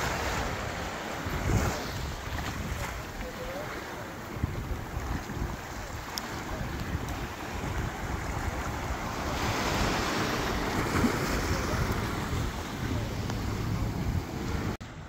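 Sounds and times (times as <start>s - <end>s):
small waves washing on sand: 0.0s - 15.0s
wind rumbling on microphone: 0.0s - 15.0s.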